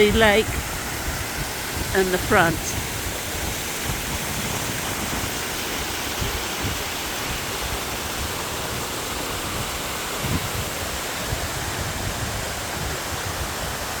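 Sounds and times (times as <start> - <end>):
waterfall pouring: 0.3 - 14.0.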